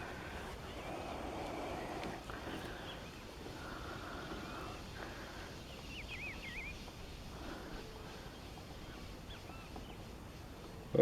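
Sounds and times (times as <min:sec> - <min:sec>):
low outdoor hum: 0:00.0 - 0:11.0
wind: 0:00.0 - 0:11.0
bird chirping: 0:00.7 - 0:11.0.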